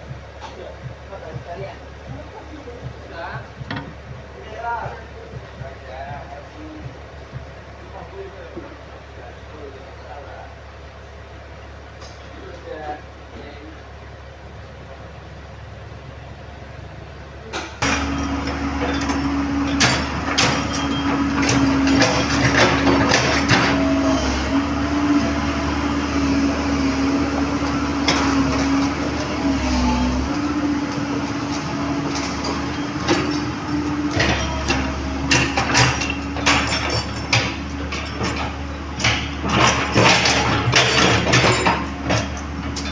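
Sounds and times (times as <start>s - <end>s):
metal clanks and knocks: 0.0s - 10.8s, 11.9s - 13.6s, 17.5s - 42.9s
excavator whining and rumbling: 0.0s - 42.9s.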